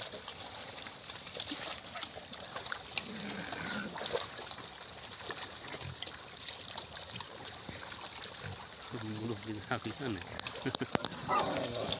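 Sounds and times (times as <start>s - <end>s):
water splashing and sloshing: 0.0s - 11.9s.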